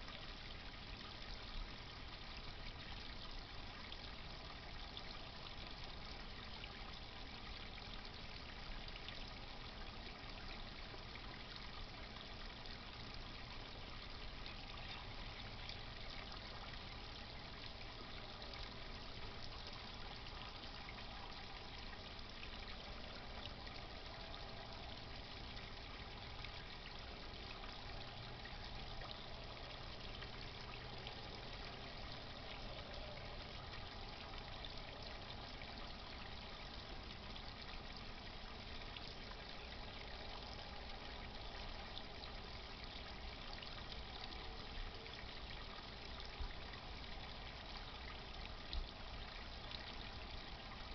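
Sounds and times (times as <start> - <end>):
pond water trickling and splashing: 0.0 - 50.9.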